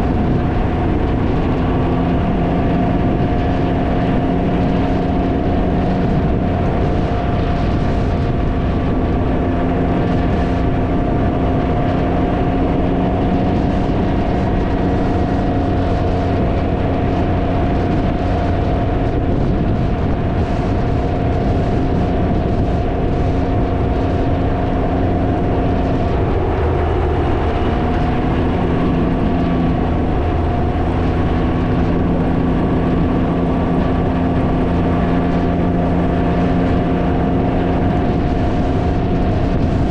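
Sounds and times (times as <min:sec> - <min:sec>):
engine running: 0:00.0 - 0:39.9
wind buffeting microphone: 0:00.0 - 0:39.9.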